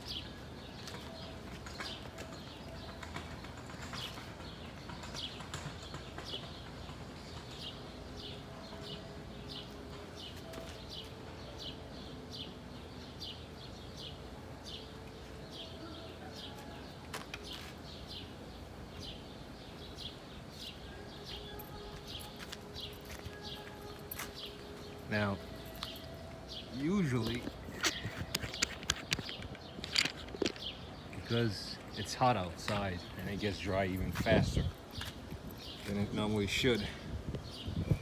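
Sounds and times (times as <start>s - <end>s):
bird chirping: 0.0s - 36.8s.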